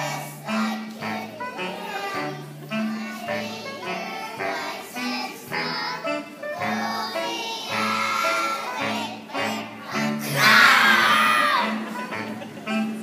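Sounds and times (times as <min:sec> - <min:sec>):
children singing: 0:00.0 - 0:11.9
musical accompaniment with bass: 0:00.0 - 0:13.0.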